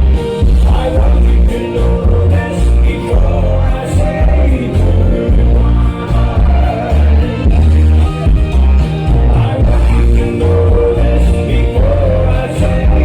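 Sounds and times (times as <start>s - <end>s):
loud dance music: 0.0s - 13.0s
person singing: 0.0s - 13.0s.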